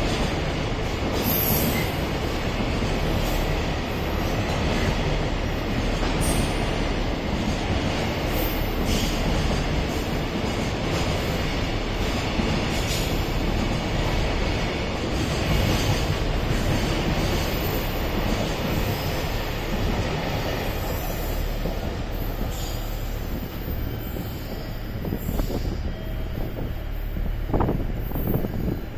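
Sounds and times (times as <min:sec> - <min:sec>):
steel wheels on rail: 0:00.0 - 0:28.9.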